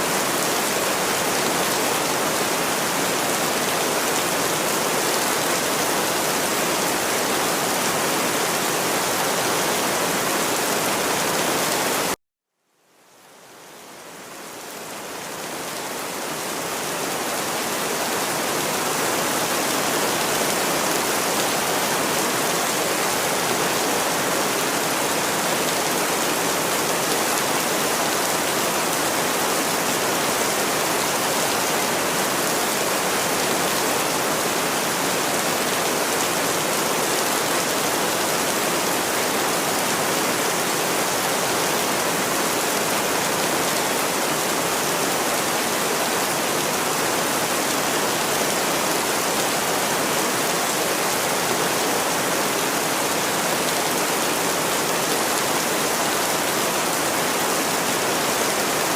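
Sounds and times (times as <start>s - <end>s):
steady rain: 0.0s - 58.9s.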